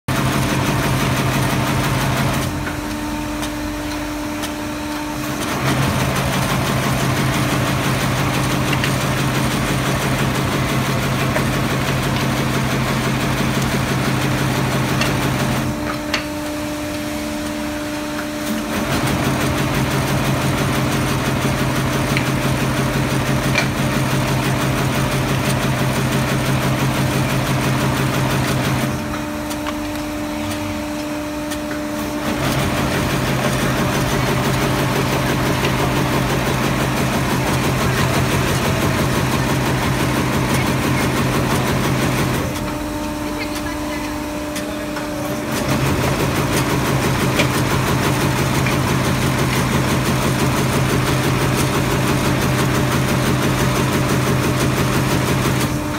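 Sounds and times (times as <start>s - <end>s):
machine mechanical hum: 0.1s - 55.9s.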